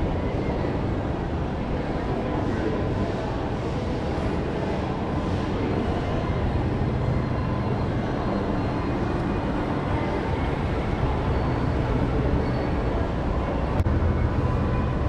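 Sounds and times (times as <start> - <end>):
escalator machinery humming: 0.0 - 15.0.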